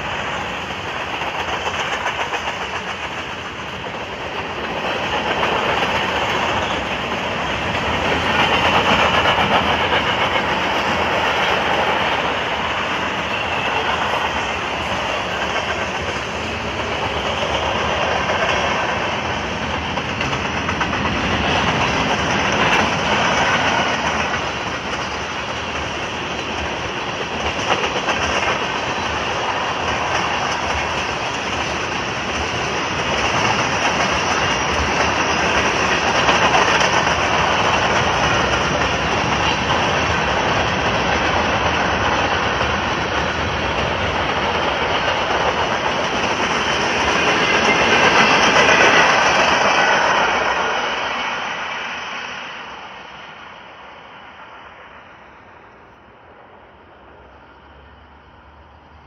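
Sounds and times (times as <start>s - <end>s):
train wheels clacking on rails: 0.0s - 53.5s
train rumble: 0.0s - 59.0s.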